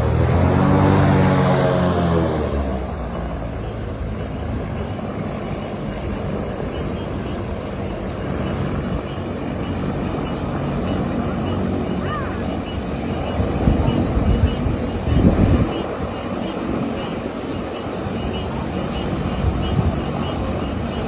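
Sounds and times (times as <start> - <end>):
airboat engine and propeller drone: 0.0 - 21.0.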